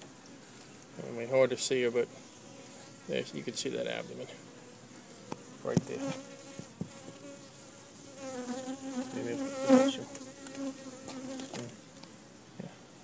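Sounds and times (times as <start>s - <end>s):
honeybees buzzing: 0.1s - 12.2s.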